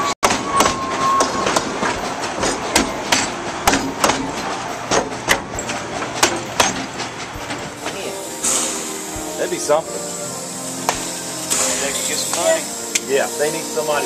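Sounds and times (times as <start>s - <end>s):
train clanks: 0.0s - 14.0s
train rumbling: 0.0s - 14.0s.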